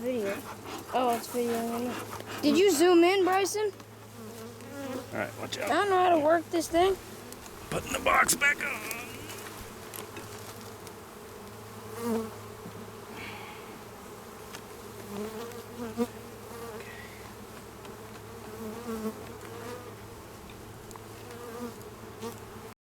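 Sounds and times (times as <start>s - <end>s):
honeybees buzzing: 0.0s - 22.8s.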